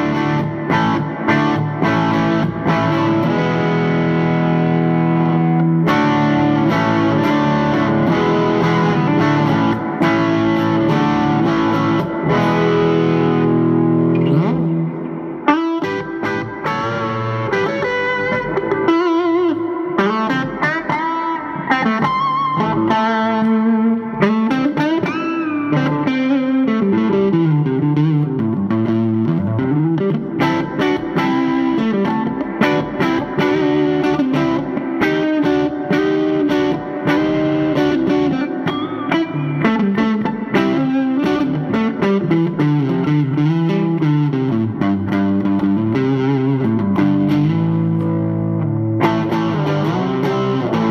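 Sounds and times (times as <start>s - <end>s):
electric guitar melody: 0.0s - 50.9s.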